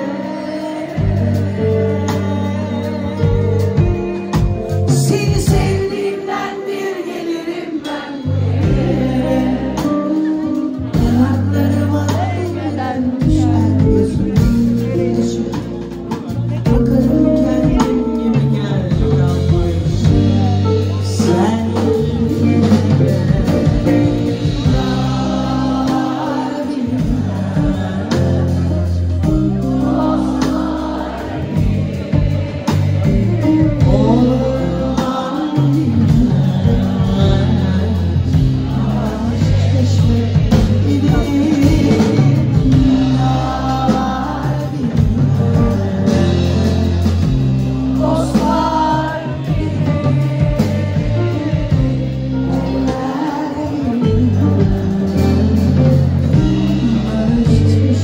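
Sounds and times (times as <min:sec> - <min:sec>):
bass guitar: 0:00.0 - 0:58.0
drum kit: 0:00.0 - 0:58.0
electric guitars: 0:00.0 - 0:58.0
woman singing: 0:00.0 - 0:58.0.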